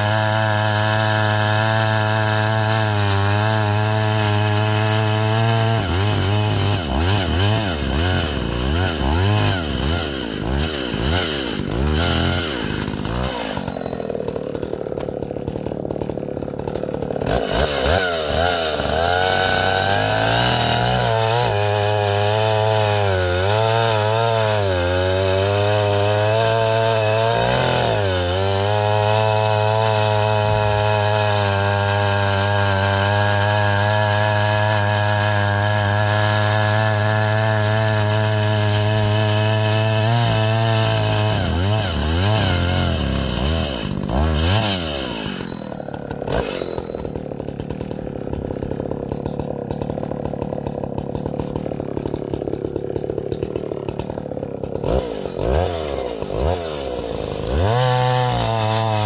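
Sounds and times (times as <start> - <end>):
chainsaw cutting firewood: 0.0 - 59.0.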